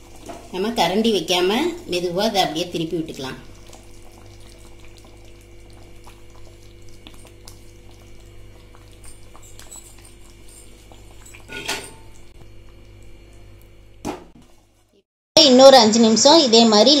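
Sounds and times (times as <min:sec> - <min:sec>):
curry sloshing and bubbling: 0:00.0 - 0:14.8.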